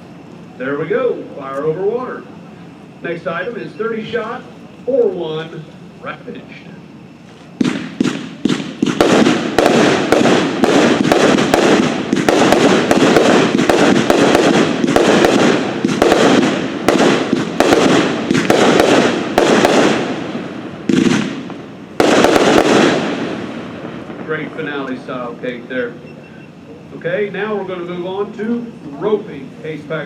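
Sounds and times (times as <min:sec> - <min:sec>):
firework cake barrage: 0:00.0 - 0:30.0.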